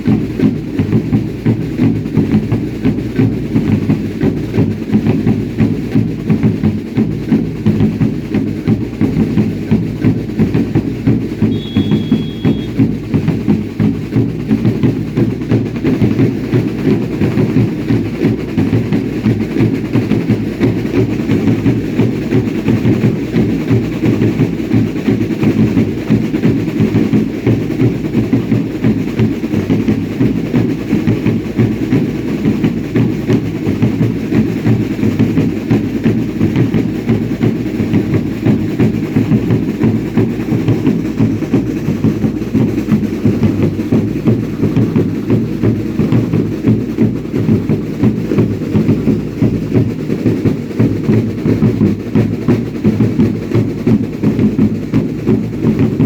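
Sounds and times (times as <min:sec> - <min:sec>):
drums beating a dance rhythm: 0:00.0 - 0:56.0.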